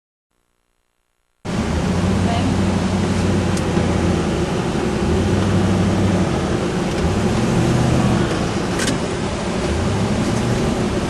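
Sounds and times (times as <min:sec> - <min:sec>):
vehicle engine humming: 0:01.4 - 0:11.0
road and wind noise: 0:01.5 - 0:11.0.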